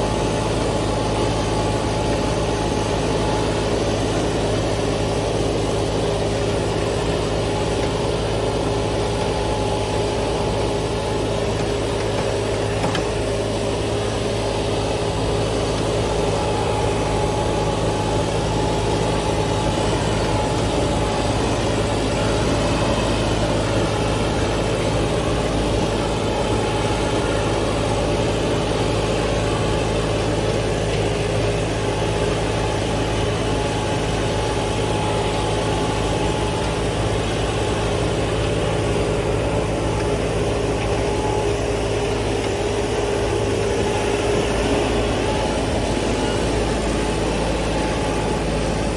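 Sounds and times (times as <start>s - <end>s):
steady humming tone: 0.0s - 48.9s
tractor diesel engine running: 0.0s - 48.9s.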